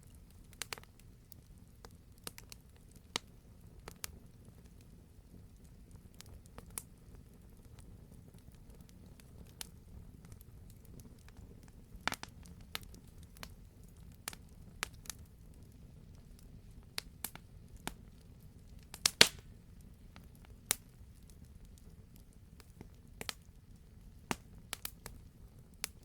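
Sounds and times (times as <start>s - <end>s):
low rumble of flames: 0.0s - 26.0s
wood fire crackles and pops: 0.0s - 26.0s.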